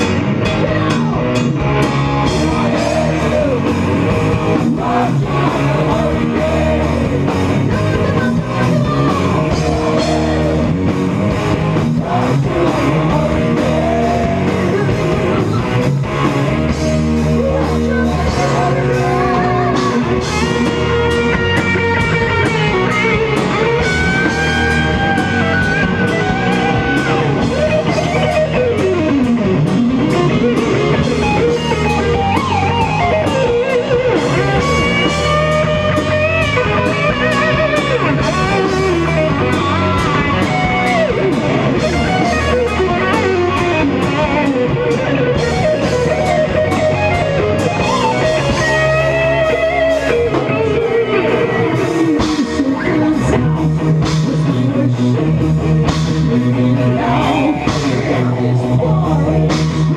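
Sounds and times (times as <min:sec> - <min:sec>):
lead guitar bending high notes: 0:00.0 - 0:55.2
live rock band playing: 0:00.0 - 0:59.9.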